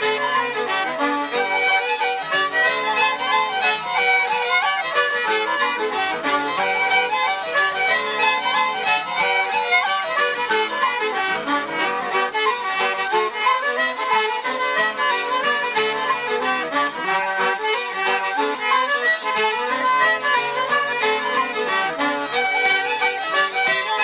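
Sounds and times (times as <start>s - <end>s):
fiddle melody: 0.0s - 24.0s
traditional band playing fast tune: 0.0s - 24.0s.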